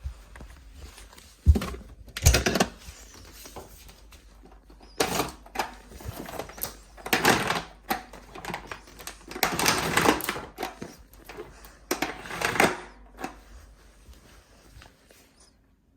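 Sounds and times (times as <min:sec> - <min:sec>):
rustling and scraping: 0:00.0 - 0:15.6.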